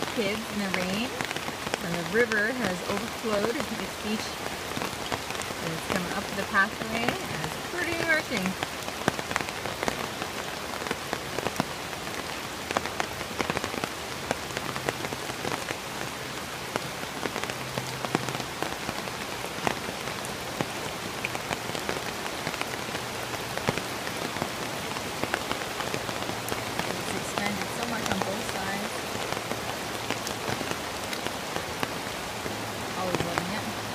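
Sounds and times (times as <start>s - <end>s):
rain drops hitting: 0.0s - 33.9s
river rushing: 0.0s - 33.9s.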